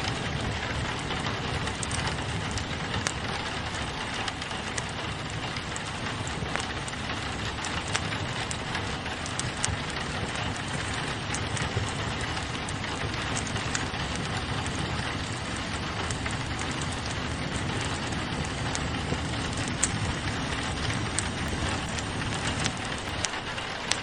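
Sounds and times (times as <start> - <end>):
rain on a window: 0.0 - 24.0
wood fire crackling: 0.0 - 24.0.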